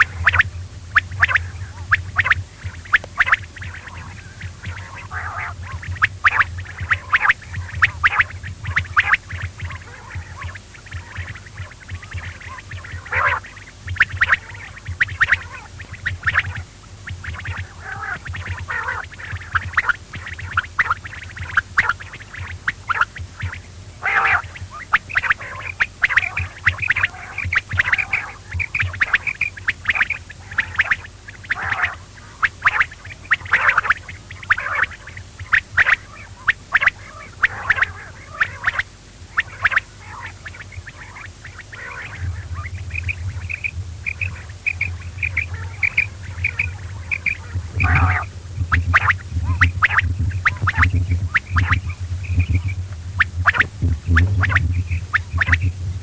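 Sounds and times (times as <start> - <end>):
quail calling: 0.0 - 55.8
low hum: 0.0 - 56.0.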